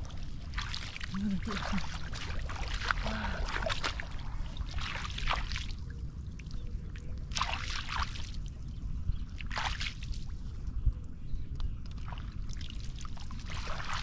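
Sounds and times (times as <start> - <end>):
floodwater splashing and sloshing: 0.0 - 10.7, 11.8 - 14.0.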